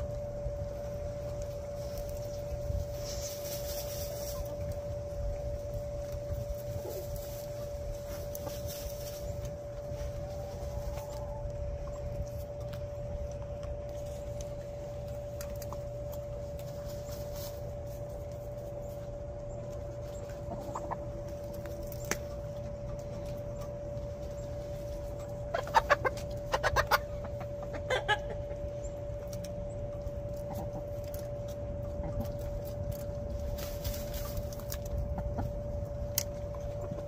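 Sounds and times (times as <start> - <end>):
hens clucking: 0.0 - 37.0
steady humming tone: 0.0 - 37.0.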